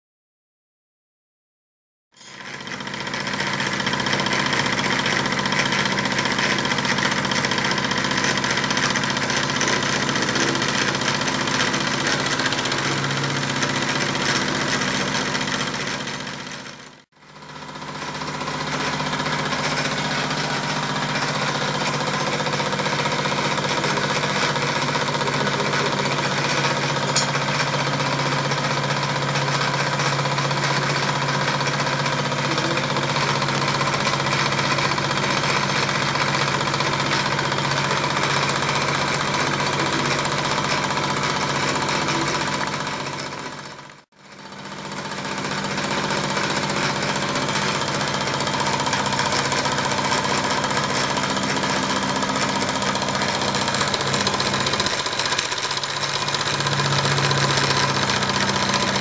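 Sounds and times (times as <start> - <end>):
steam engine mechanical clatter: 2.2 - 59.0.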